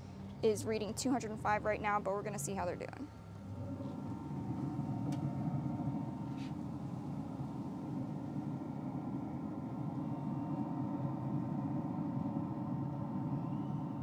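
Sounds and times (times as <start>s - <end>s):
grill fan humming: 0.0s - 14.0s.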